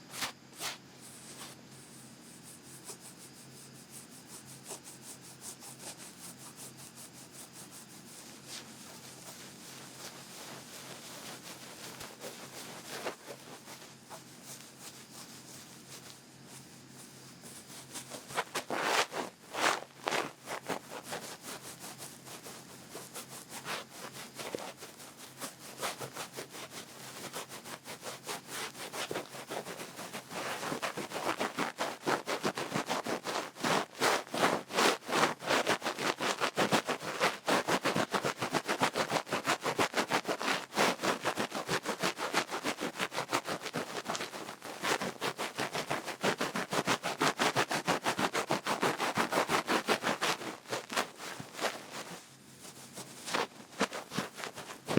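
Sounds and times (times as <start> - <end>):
ear pick scratching microphone: 0.0 - 22.2, 22.9 - 54.9.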